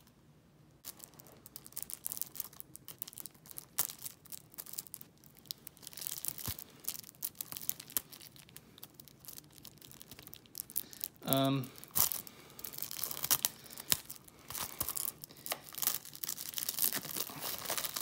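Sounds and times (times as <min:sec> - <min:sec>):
plastic wrap crinkling: 0:00.8 - 0:18.0.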